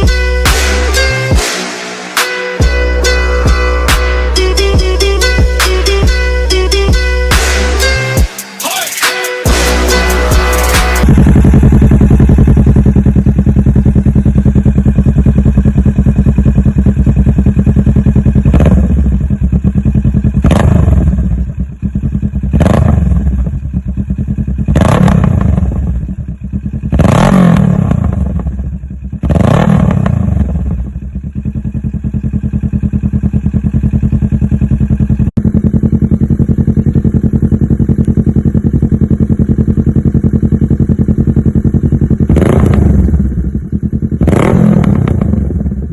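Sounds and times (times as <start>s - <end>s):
motorcycle engine idling: 0.0s - 1.5s, 9.5s - 45.9s
motorcycle engine revving: 0.0s - 8.4s, 9.0s - 45.9s.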